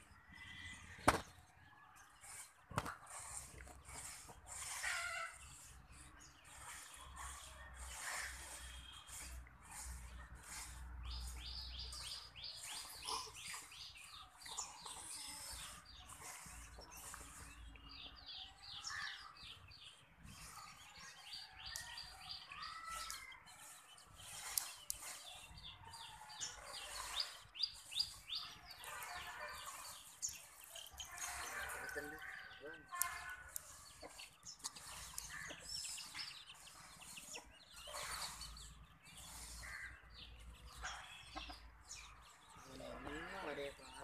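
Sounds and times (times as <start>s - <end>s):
chicks peeping: 6.4s - 43.8s.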